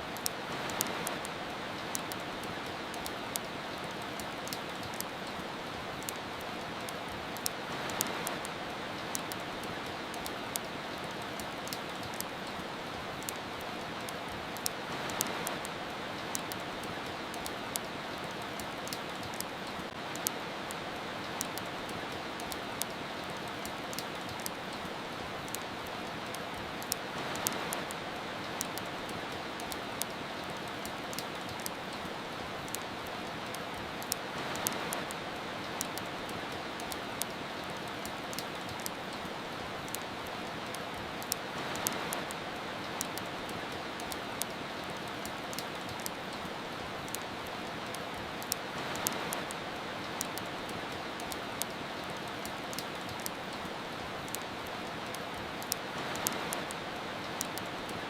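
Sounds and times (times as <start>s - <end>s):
rain hiss: 0.0s - 58.0s
wood fire crackling: 0.0s - 58.0s.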